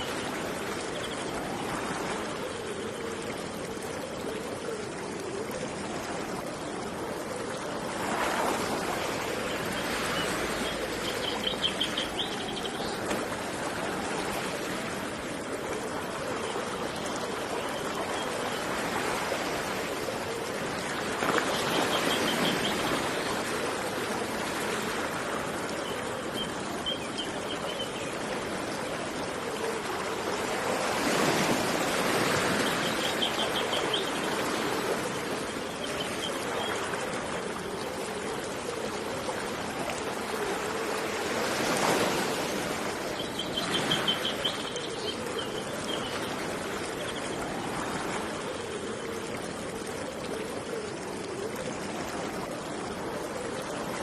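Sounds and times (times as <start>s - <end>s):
stream of water running: 0.0s - 54.0s.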